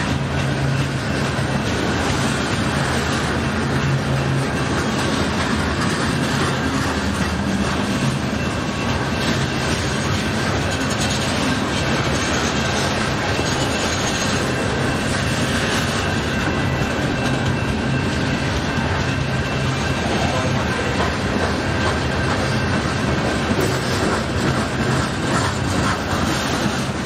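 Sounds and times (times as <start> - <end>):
freight train rolling past: 0.0 - 27.0
wheels clicking over rail joints: 0.0 - 27.0.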